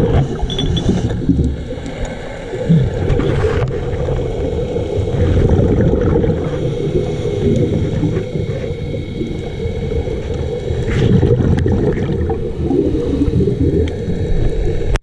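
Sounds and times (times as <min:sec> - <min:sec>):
muffled underwater rumble: 0:00.0 - 0:15.0.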